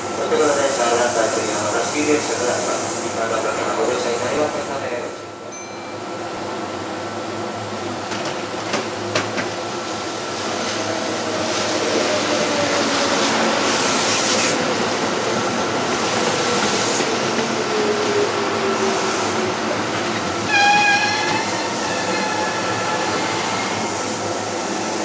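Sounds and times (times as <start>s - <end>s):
standing train hum: 0.0s - 25.0s
train running noise: 0.0s - 25.0s.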